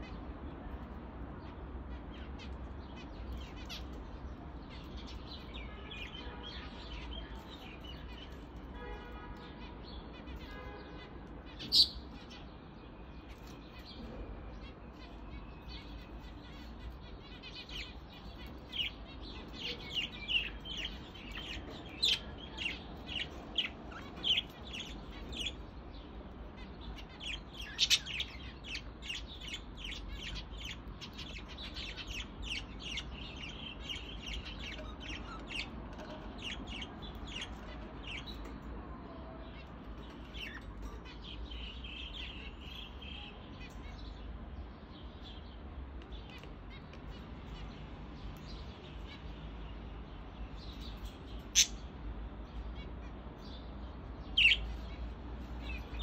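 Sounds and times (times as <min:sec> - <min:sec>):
budgerigars chirping and warbling: 0:00.0 - 0:08.7, 0:09.5 - 0:56.0.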